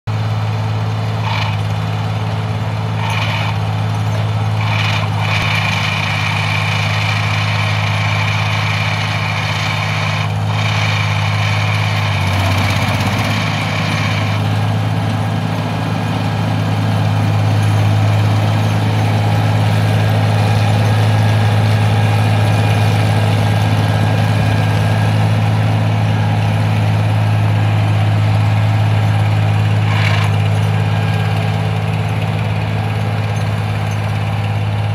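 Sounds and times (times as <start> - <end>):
harvester engine running: 0.1 - 34.9.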